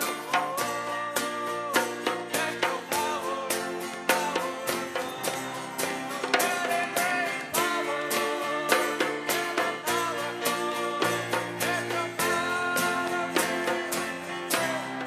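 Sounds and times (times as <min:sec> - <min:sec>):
drum beat: 0:00.0 - 0:15.0
faint singing: 0:00.0 - 0:15.0
guitar plucked and strummed: 0:00.0 - 0:15.0.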